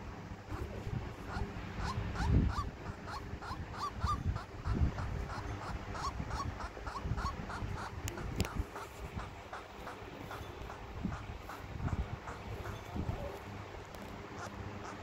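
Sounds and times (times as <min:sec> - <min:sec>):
dove whining calls: 0:00.0 - 0:15.0.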